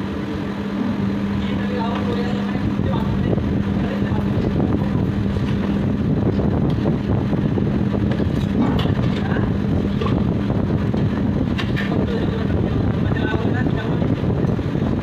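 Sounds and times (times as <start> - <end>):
griddle station roar: 0.0 - 15.0
low steady hum: 0.0 - 15.0.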